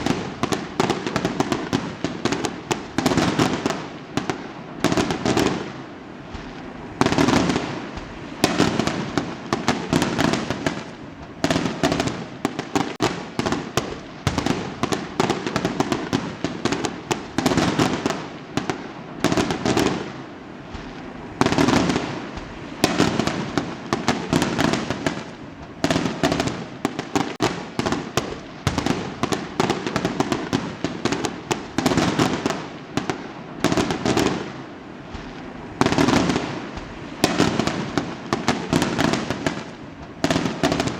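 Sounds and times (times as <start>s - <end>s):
fireworks crackling and banging: 0.0s - 40.9s.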